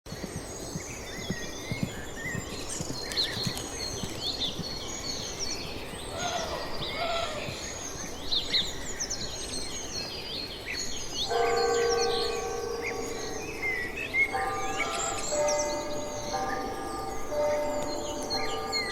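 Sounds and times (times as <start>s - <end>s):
small birds chirping: 0.1s - 18.9s.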